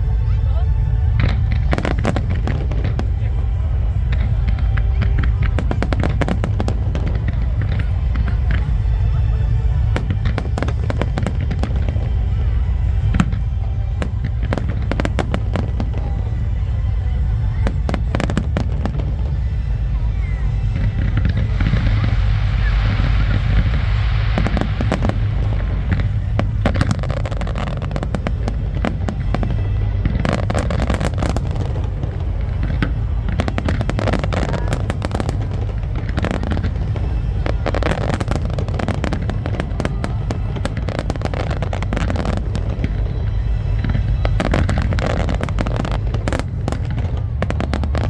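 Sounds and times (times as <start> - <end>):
fireworks bangs and crackles: 0.0 - 48.0
low rumble: 0.0 - 48.0.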